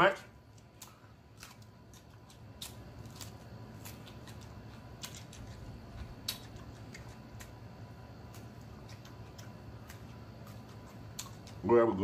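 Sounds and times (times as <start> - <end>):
chewing crunches: 0.5 - 11.8.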